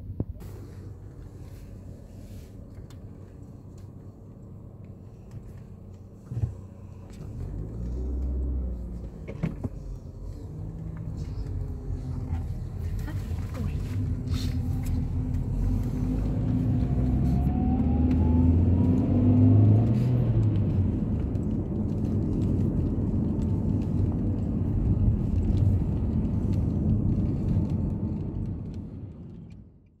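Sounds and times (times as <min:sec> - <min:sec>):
car engine: 0:00.0 - 0:30.0
road rumble inside car: 0:00.0 - 0:30.0.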